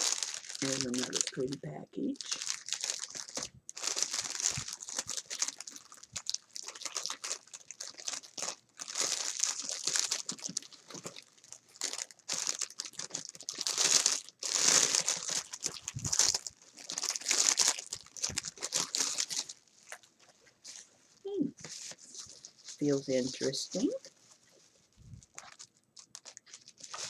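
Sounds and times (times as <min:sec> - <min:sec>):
packaging crinkling and rustling: 0:00.0 - 0:27.0.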